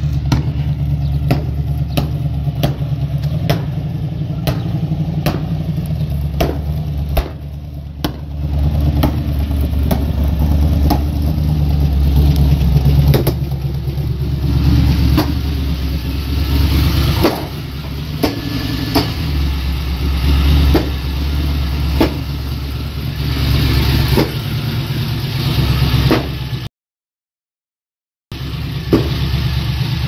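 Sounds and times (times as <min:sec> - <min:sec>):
sharp exhaust cracks: 0:00.0 - 0:26.6
deep car exhaust rumble: 0:00.0 - 0:26.7, 0:28.3 - 0:30.0.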